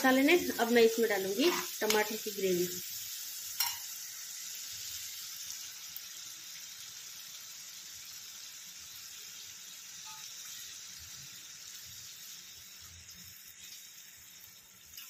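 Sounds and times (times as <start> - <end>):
masala sizzling in hot oil: 0.0 - 15.0.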